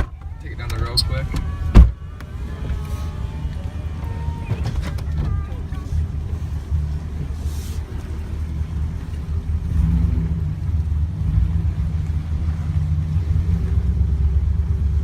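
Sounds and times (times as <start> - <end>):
pickup truck exhaust rumble: 0.0 - 15.0.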